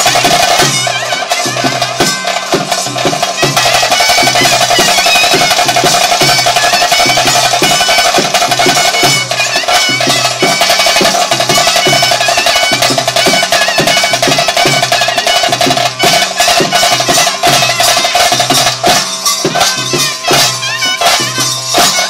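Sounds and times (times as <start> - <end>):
driving drum rhythm: 0.0 - 22.0.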